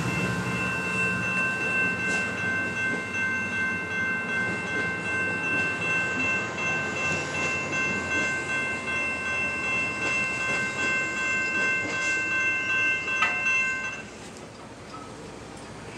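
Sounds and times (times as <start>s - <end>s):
railroad crossing bell ringing: 0.0s - 15.9s.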